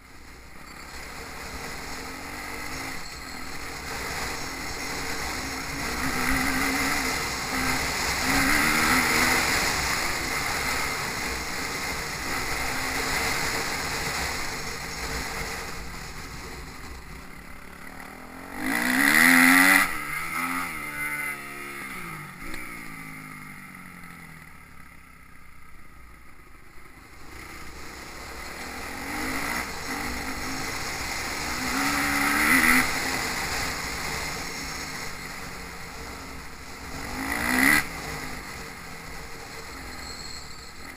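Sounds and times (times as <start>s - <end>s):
motocross bike engines revving: 0.1s - 40.9s
motorbike passing close: 0.7s - 24.8s, 27.0s - 40.9s.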